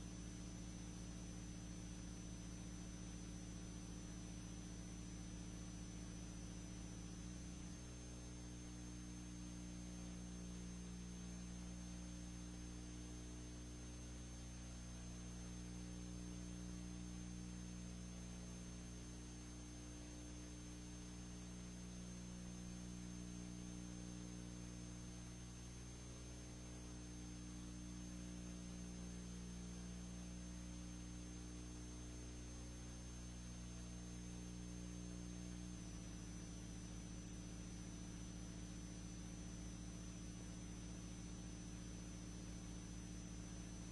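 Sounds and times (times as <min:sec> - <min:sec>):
electrical mains hum: 0:00.0 - 0:43.9
faint high-pitched whine: 0:00.0 - 0:43.9.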